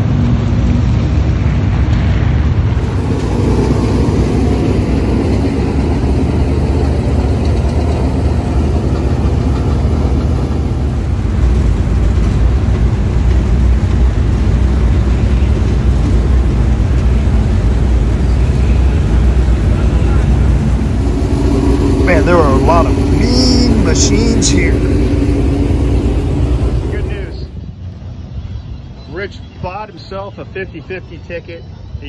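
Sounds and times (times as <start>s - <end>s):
race car engines rumbling: 0.0s - 32.0s.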